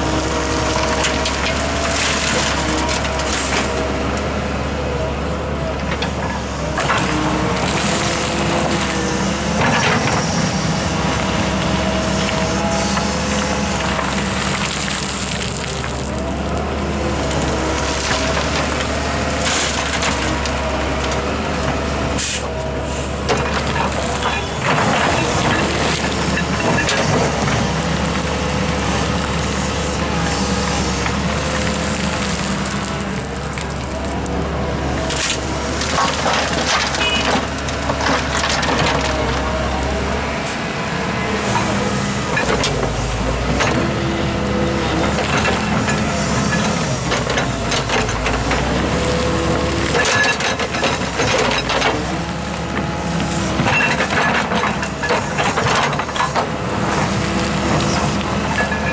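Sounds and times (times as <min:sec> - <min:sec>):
diesel excavator running: 0:00.0 - 0:58.9
soil and rock clattering: 0:00.0 - 0:58.9.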